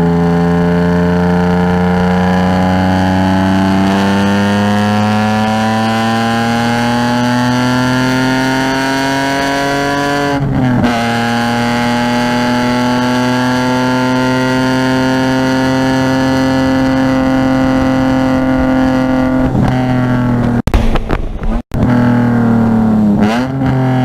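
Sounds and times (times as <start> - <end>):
car engine accelerating: 0.0 - 20.7, 21.5 - 24.0.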